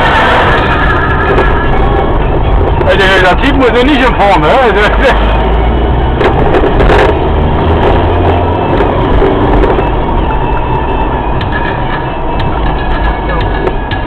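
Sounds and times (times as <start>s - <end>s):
car tyres and engine rumbling: 0.0s - 14.0s.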